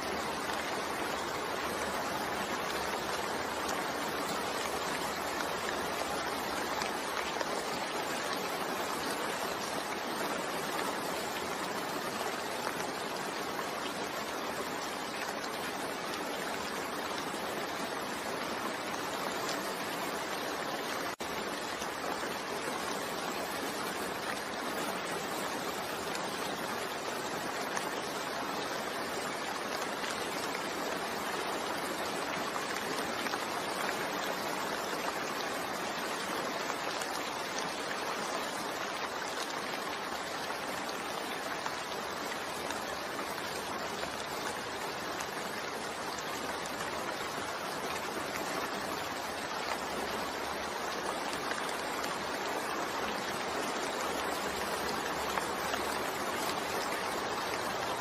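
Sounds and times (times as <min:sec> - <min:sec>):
steady rainfall hiss: 0:00.0 - 0:58.0.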